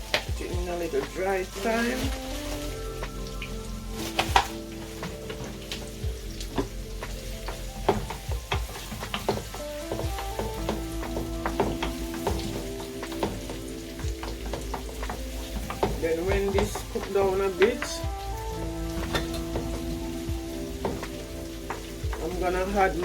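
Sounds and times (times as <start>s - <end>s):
onions sizzling in oil: 0.0s - 23.0s.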